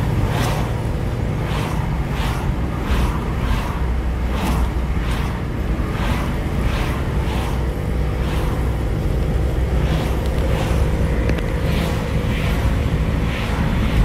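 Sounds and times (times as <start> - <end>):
engine and tyre rumble: 0.0 - 14.0.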